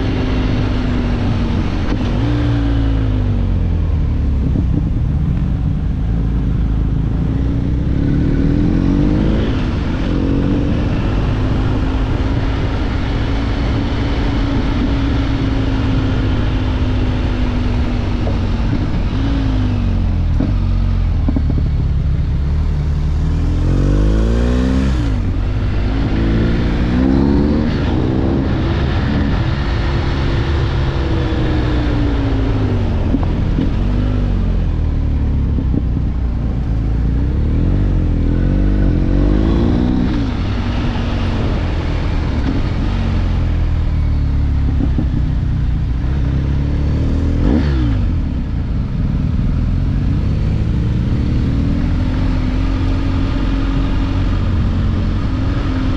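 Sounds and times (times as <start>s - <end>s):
motorcycle engine accelerating: 0.0s - 55.9s
road rumble: 0.0s - 55.9s
wind noise: 0.0s - 55.9s.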